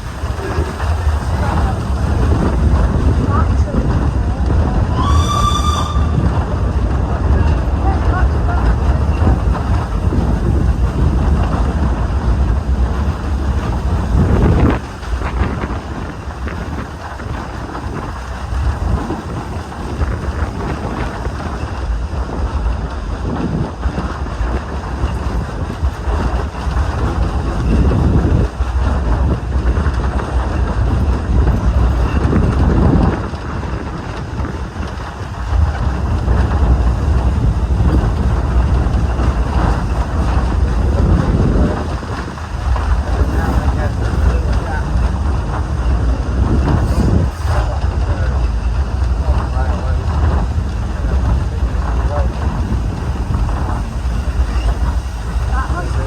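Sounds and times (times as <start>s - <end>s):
train wagon rumbling on track: 0.0s - 56.0s
wind buffeting microphone: 0.0s - 56.0s.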